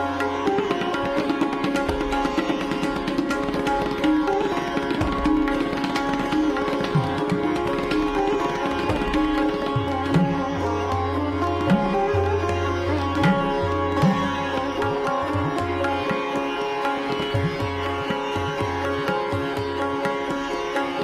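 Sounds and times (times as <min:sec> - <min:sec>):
plucked sitar: 0:00.0 - 0:21.0
tabla strokes: 0:00.0 - 0:21.0.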